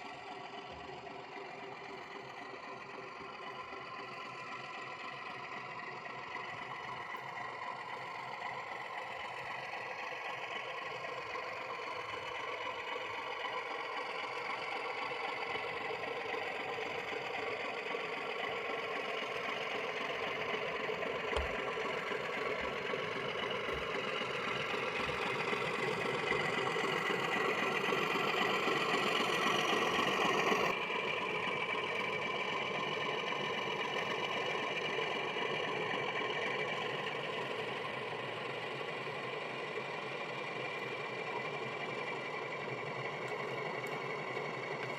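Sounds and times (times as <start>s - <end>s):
model diesel engine sound: 0.0s - 44.9s.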